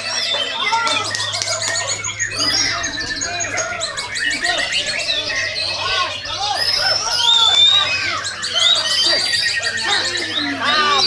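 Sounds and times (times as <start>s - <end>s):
songbirds singing: 0.0s - 11.0s
steady low hum: 0.7s - 10.5s.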